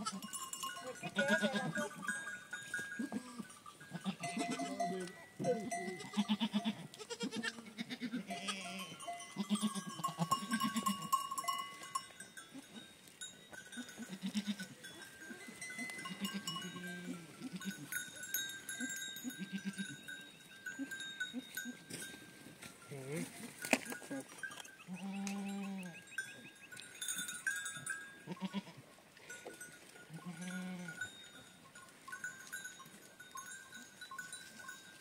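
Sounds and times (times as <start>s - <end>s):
goats and sheep bleating: 0.0s - 33.1s
animal bells clinking: 0.0s - 35.0s.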